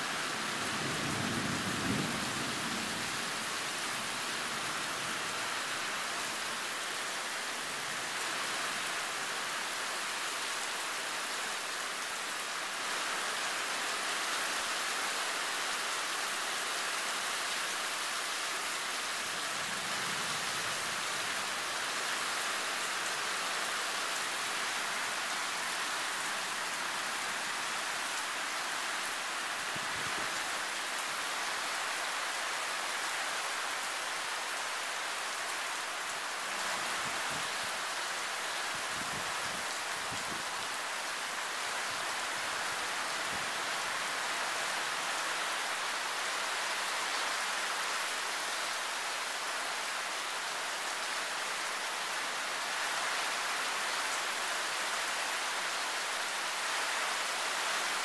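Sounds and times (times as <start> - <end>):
heavy downpour: 0.0 - 58.0.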